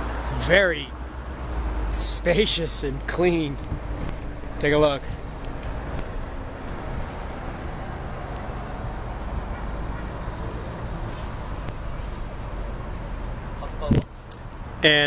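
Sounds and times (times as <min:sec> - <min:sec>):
cars and buses passing: 0:00.0 - 0:15.0
road traffic noise: 0:00.0 - 0:15.0.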